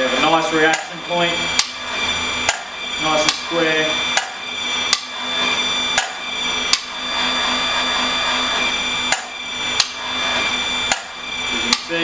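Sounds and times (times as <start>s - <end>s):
hydraulic pump running: 0.0s - 12.0s.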